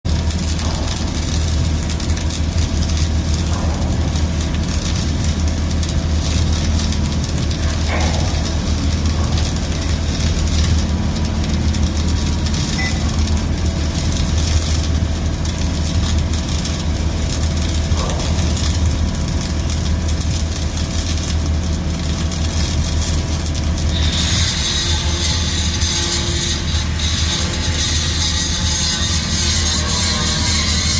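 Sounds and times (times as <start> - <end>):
arc welding crackling hiss: 0.1 - 30.9
welding machine hum: 0.1 - 30.9.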